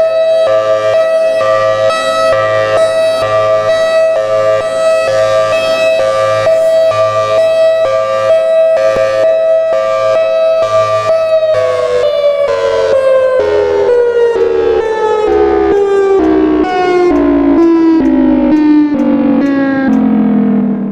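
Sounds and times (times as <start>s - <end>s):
civil defense siren hi-lo signal: 0.0s - 20.9s.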